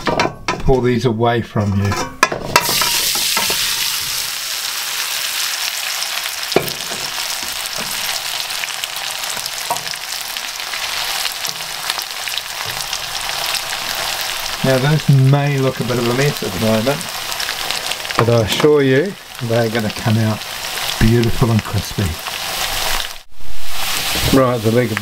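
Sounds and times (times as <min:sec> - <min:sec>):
potatoes sizzling in oil: 0:02.5 - 0:25.0.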